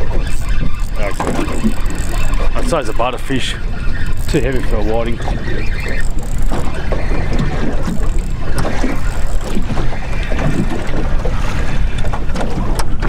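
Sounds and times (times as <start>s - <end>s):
water slapping against boat: 0.0s - 13.0s
wind buffeting microphone: 0.0s - 13.0s.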